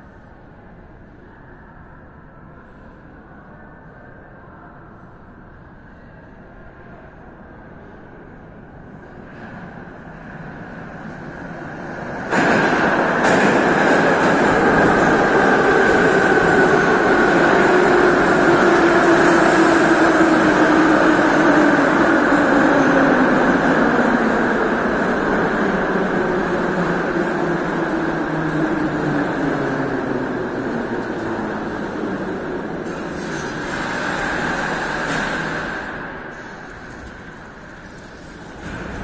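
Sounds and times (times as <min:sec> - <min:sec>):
metro train arriving: 0:00.0 - 0:39.0.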